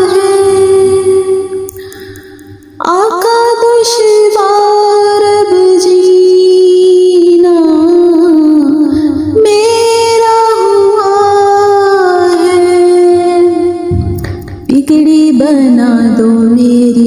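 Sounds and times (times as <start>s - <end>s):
high voice singing slow melody: 0.0s - 17.0s.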